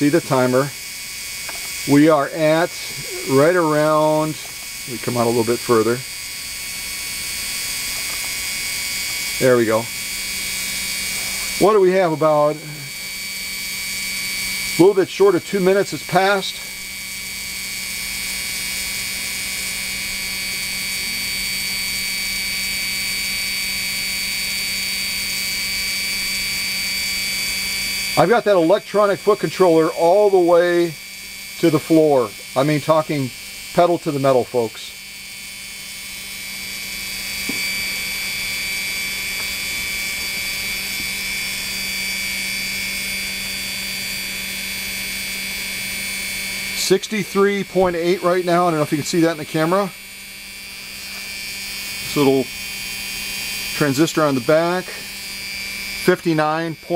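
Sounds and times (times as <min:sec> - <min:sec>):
sewing machine motor whine: 0:00.0 - 0:56.9.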